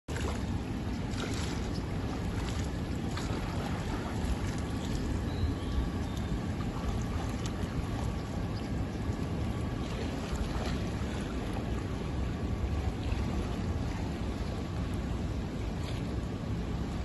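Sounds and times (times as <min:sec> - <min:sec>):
faint water splashes from swimming: 0:00.1 - 0:17.0
wind rumble on microphone: 0:00.1 - 0:17.0.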